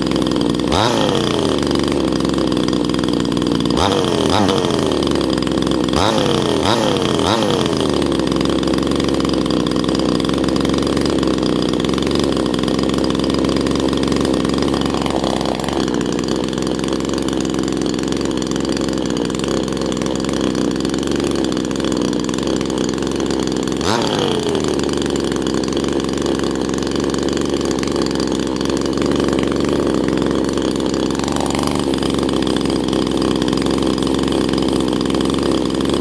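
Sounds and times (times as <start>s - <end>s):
chainsaw engine revving and idling: 0.0s - 36.0s.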